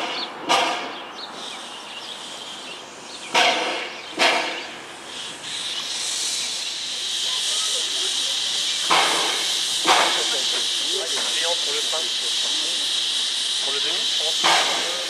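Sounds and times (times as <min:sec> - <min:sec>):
sharp puffs of steam: 0:00.0 - 0:15.0
steady hiss of escaping steam: 0:01.2 - 0:15.0.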